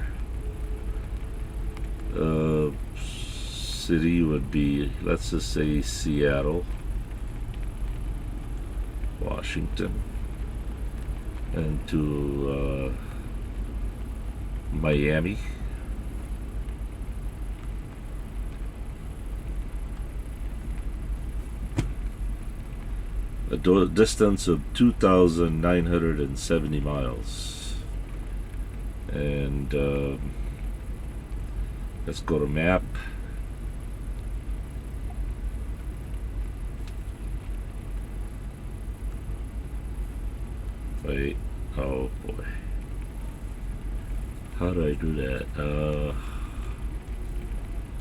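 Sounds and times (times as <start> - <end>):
diesel truck engine idling: 8.3 - 48.0.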